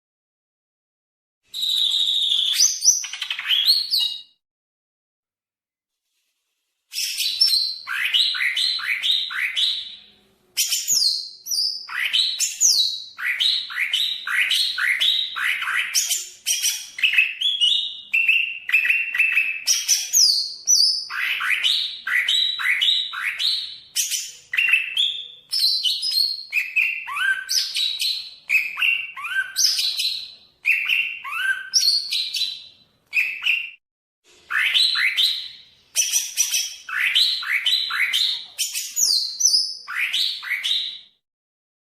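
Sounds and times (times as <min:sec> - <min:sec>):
bird singing whistled notes: 0:01.5 - 0:04.4, 0:06.9 - 0:33.8, 0:34.5 - 0:41.2.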